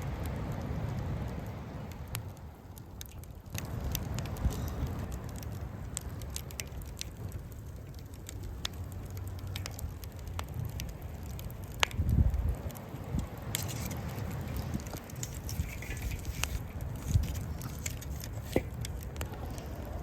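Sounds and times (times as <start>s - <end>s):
burning wood popping: 0.0s - 20.0s
campfire crackling: 0.0s - 20.0s
steady low rumble: 0.0s - 20.0s.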